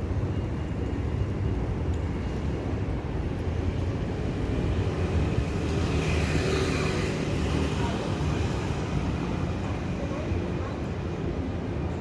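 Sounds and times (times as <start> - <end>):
city background rumble: 0.0 - 12.0.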